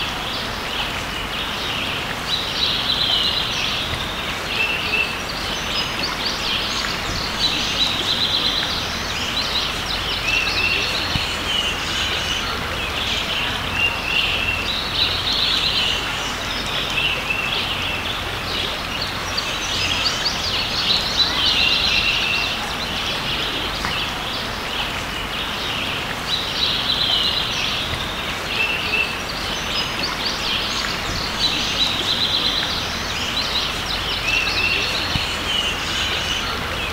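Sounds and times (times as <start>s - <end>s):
creek water rushing: 0.0s - 36.9s
songbirds singing: 0.0s - 36.9s.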